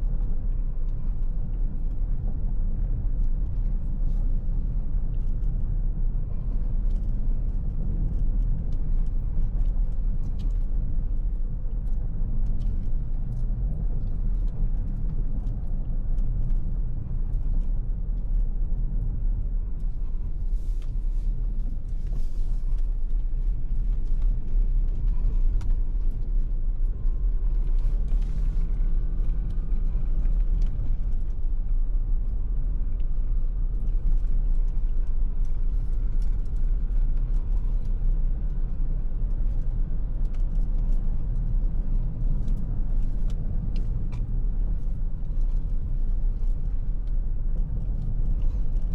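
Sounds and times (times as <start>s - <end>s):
car road and tyre noise: 0.0s - 48.9s.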